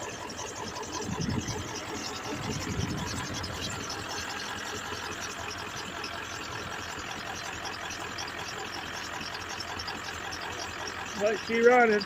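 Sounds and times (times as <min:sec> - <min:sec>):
diesel engine idling: 0:00.0 - 0:12.0
squeaky engine pulley: 0:00.0 - 0:12.0.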